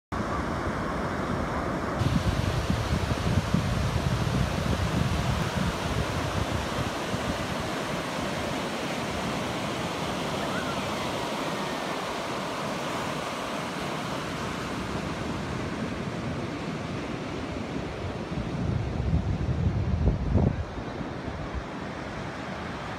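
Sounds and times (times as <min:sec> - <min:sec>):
ocean surf breaking on beach: 0:00.2 - 0:22.9
wind buffeting microphone: 0:00.4 - 0:22.9.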